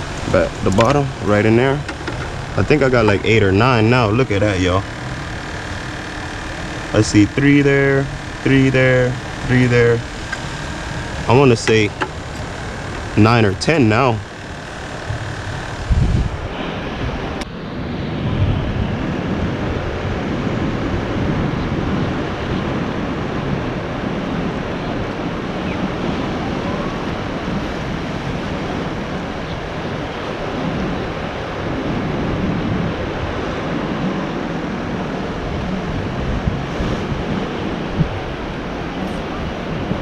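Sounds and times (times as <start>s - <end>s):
sea surf: 0.0s - 40.0s
wind buffeting microphone: 0.0s - 40.0s.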